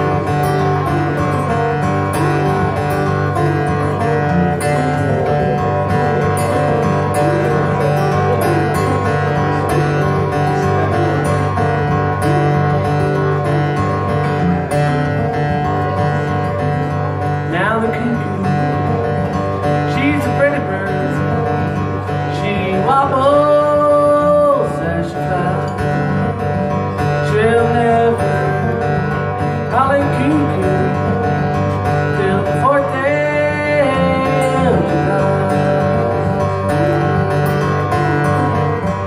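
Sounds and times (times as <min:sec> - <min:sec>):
acoustic guitar picked: 0:00.0 - 0:39.0.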